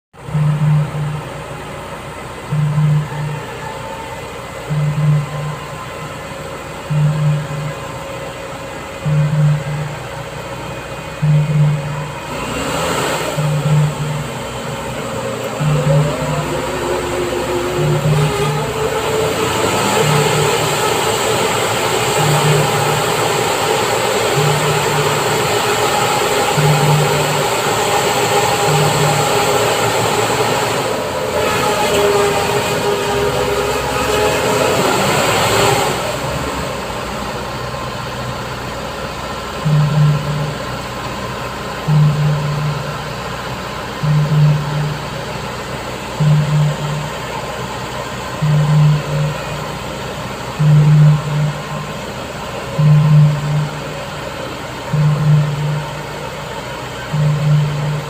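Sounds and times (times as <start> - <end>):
heavy diesel machinery running: 0.1 - 58.0
low hum: 0.2 - 58.0.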